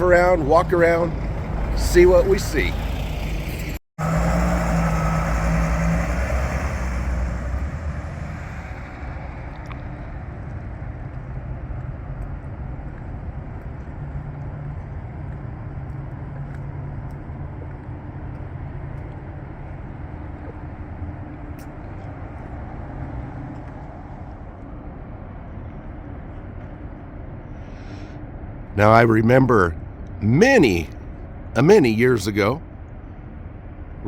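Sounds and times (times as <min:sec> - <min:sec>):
motor vehicle rumble: 0:00.0 - 0:34.0.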